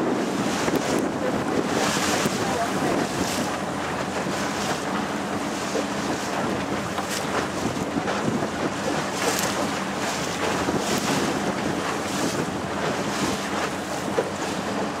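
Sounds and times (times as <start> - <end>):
motor boat engine hum: 0.0 - 15.0
waves washing: 0.0 - 15.0
wind buffeting microphone: 0.0 - 15.0.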